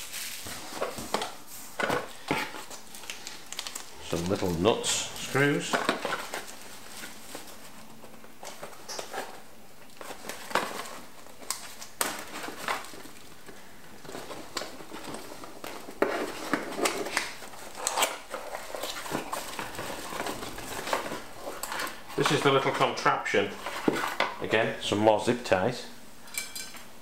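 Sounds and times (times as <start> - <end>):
rummaging through cardboard box: 0.0 - 24.3.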